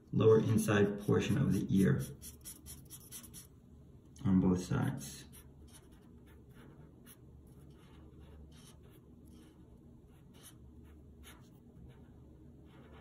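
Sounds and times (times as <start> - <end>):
marker scratching on paper: 0.4 - 3.5, 5.2 - 13.0.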